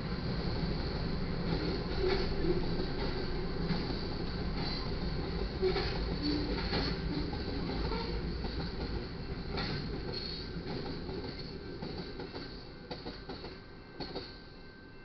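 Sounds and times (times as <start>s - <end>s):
freight train wheels rumbling: 0.0s - 14.6s.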